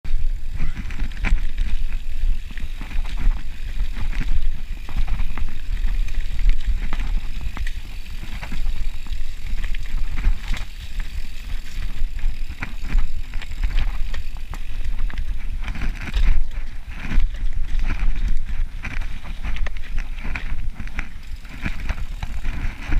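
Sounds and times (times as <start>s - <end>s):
bike clicking and rattling: 0.1s - 22.9s
bike tyres rolling over dirt: 0.1s - 22.9s.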